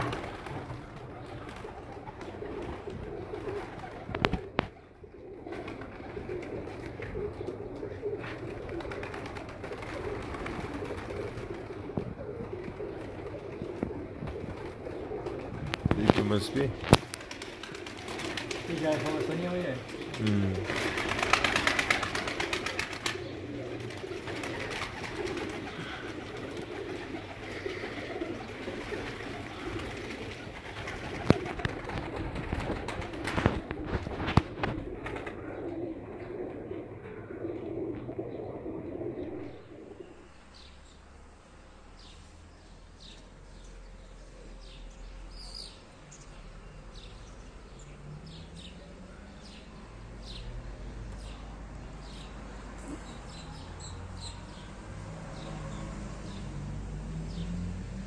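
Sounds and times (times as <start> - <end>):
pigeons cooing: 0.0 - 57.7.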